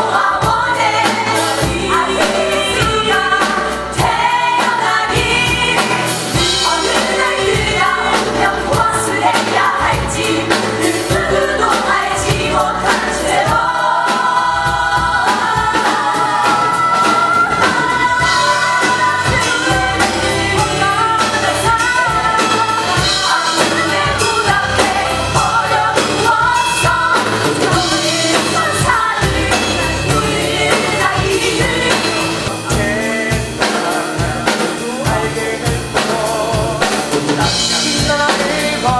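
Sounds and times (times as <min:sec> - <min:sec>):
cast singing together: 0:00.0 - 0:38.9
drum kit: 0:00.0 - 0:38.9
keyboard: 0:00.0 - 0:38.9.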